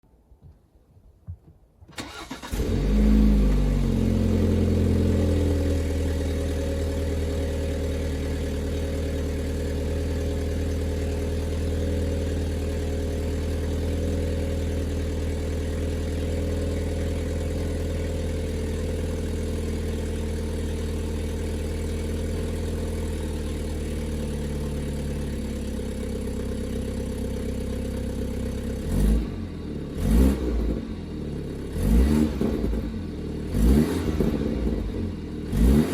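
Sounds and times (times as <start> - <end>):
car engine starting and idling: 1.9 - 35.9.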